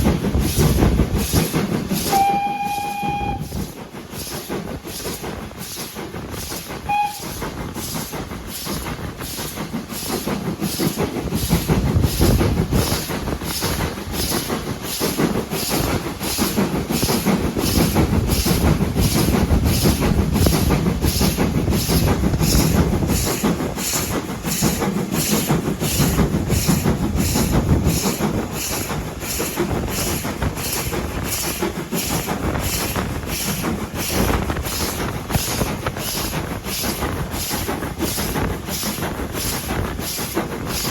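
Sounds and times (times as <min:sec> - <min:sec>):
train rumble: 0:00.0 - 0:40.9.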